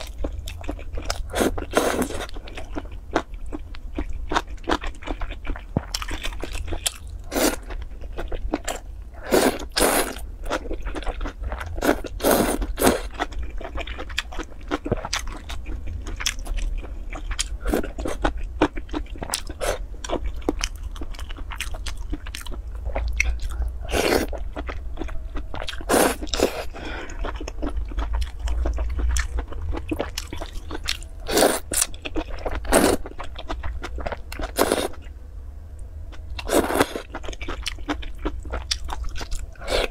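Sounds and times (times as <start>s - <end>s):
chewing: 0.0s - 35.1s, 36.1s - 39.9s.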